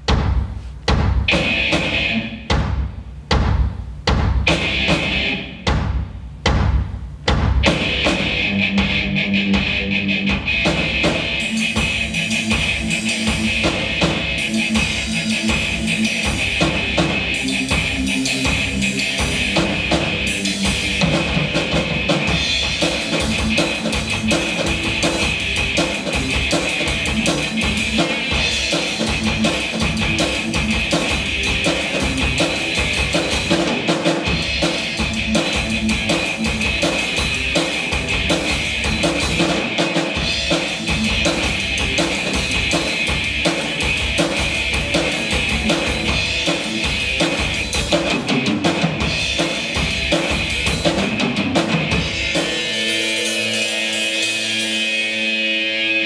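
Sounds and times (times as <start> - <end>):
drum kit rapid beat: 0.0 - 55.4
electric guitar: 1.3 - 2.5, 4.4 - 5.7, 7.6 - 56.0.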